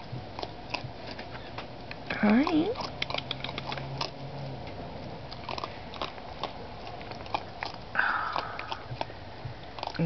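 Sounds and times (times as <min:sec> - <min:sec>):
raccoons crunching cat food: 0:00.0 - 0:10.0.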